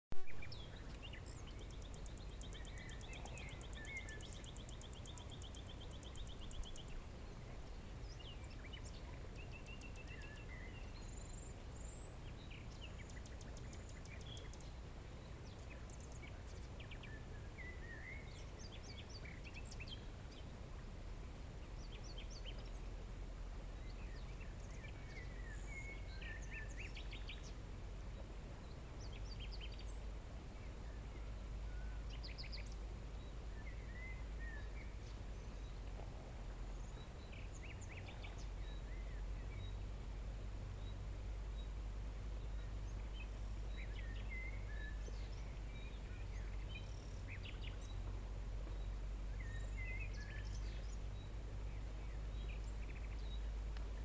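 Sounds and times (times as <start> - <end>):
songbirds singing: 0.2 - 54.0
steady low rumble: 0.2 - 54.0.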